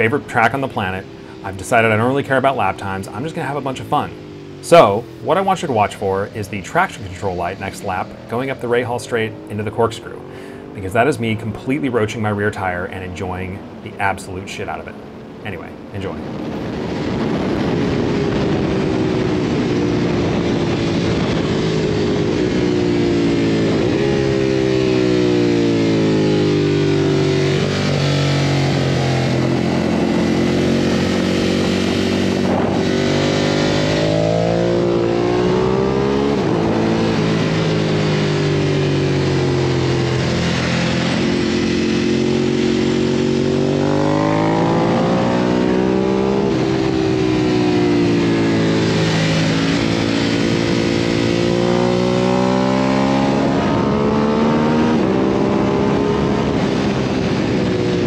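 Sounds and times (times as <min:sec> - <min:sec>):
motorcycle engine revving: 0:00.0 - 0:13.8, 0:16.4 - 0:58.0
wind rush: 0:00.0 - 0:58.0.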